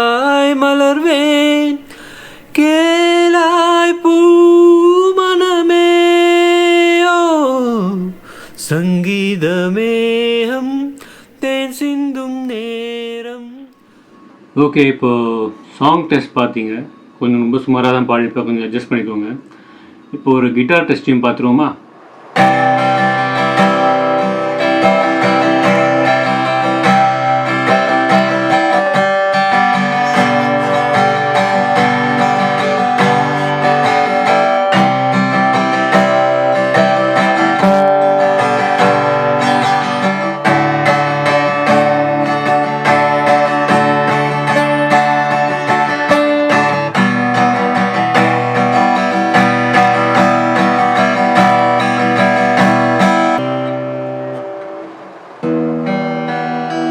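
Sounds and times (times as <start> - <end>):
acoustic guitar strumming: 0.0 - 15.7, 21.8 - 56.9.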